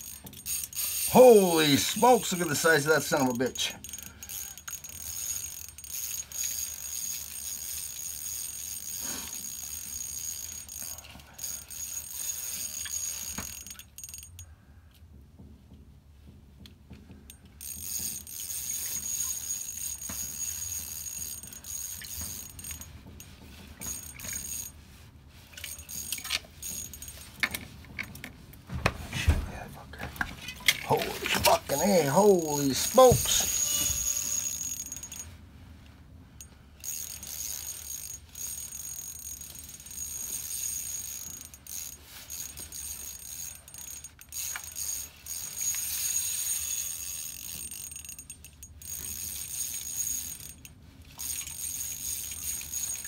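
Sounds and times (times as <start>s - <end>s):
fishing reel clicking and whirring: 0.0s - 14.5s, 17.6s - 24.8s, 25.5s - 28.2s, 31.4s - 35.3s, 36.8s - 53.0s.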